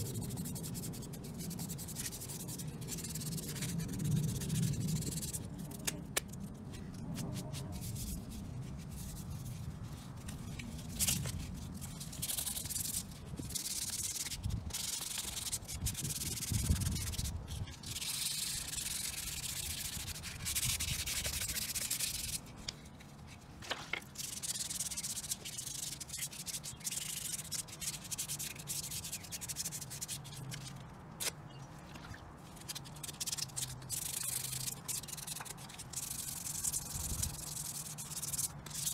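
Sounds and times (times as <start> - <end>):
wet sandpaper rubbing: 0.0 - 23.4, 24.1 - 31.4, 32.4 - 38.9.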